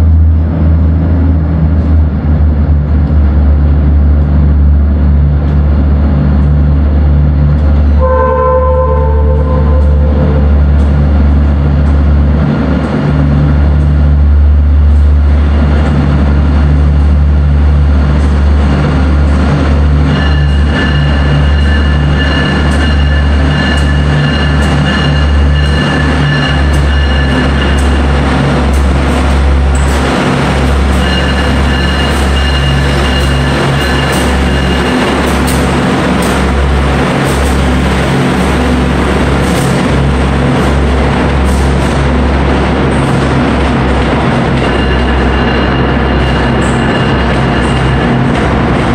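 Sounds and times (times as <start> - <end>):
diesel locomotive engines droning: 0.0 - 48.9
train rumbling: 0.0 - 48.9.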